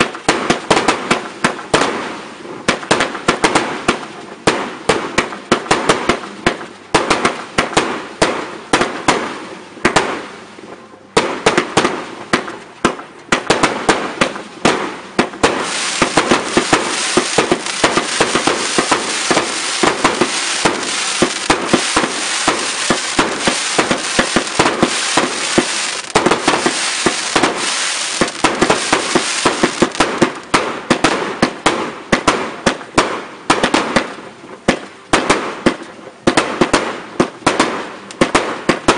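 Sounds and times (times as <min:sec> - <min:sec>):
fireworks bangs and crackling: 0:00.0 - 0:10.5, 0:11.1 - 0:38.9.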